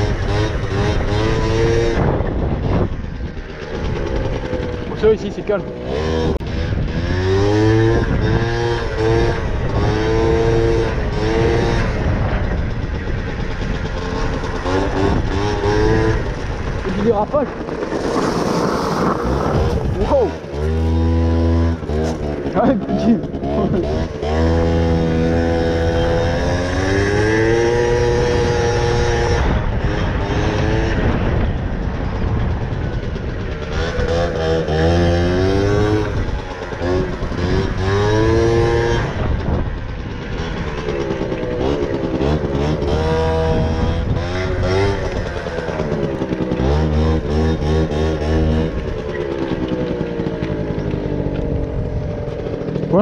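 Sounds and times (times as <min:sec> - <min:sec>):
moped engine revving: 0:00.0 - 0:53.0.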